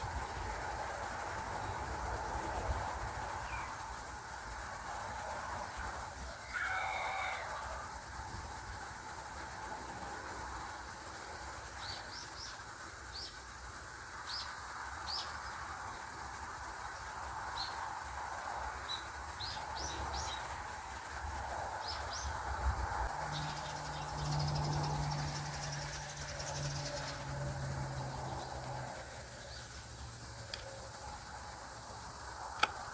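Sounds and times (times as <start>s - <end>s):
background hiss: 0.0s - 32.9s.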